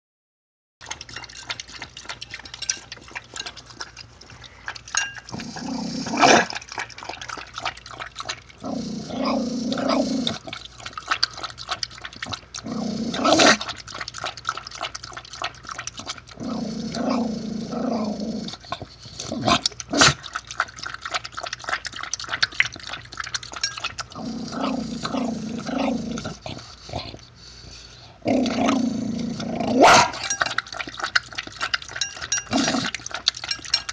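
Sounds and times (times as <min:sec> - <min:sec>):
dog lapping liquid: 0:00.8 - 0:33.9.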